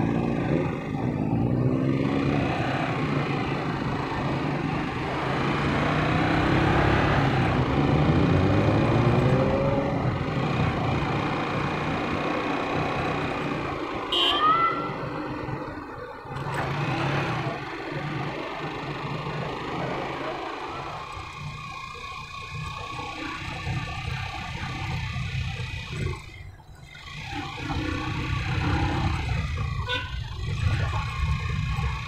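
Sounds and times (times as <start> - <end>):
cars passing: 0.0 - 32.0
motorcycle engine revving: 0.0 - 32.0.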